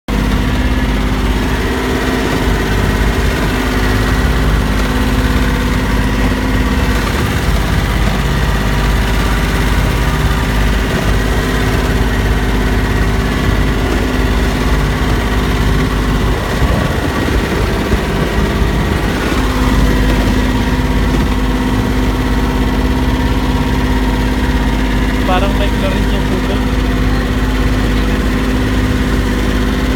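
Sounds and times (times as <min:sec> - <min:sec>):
boat engine running: 0:00.0 - 0:29.9.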